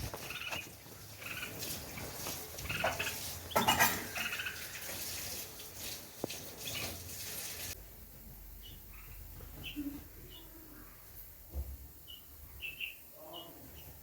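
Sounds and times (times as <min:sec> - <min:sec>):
birds chirping: 0:00.0 - 0:07.7, 0:08.3 - 0:11.1, 0:11.9 - 0:14.0.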